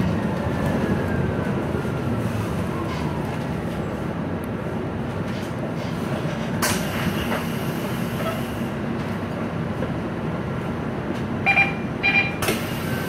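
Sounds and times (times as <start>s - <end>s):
bus diesel engine: 0.0s - 13.0s
road noise: 0.0s - 13.0s.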